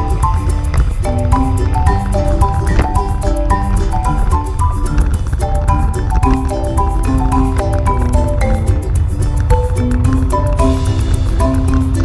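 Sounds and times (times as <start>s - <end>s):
music with struck-note melody: 0.0s - 12.0s.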